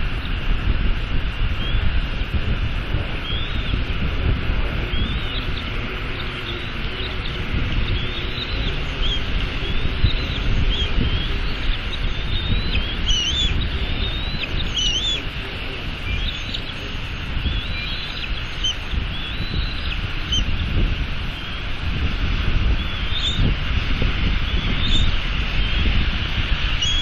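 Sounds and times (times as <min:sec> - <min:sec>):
wind and rain on microphone: 0:00.0 - 0:27.0
eagle chicks chirping: 0:01.4 - 0:27.0.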